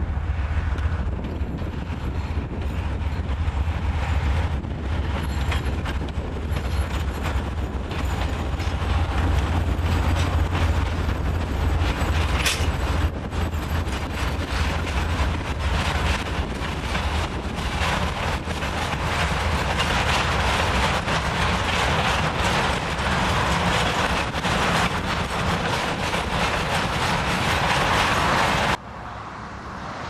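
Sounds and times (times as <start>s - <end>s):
diesel locomotive engine drone: 0.0s - 30.0s
train wheels knocking on rails: 1.1s - 28.8s.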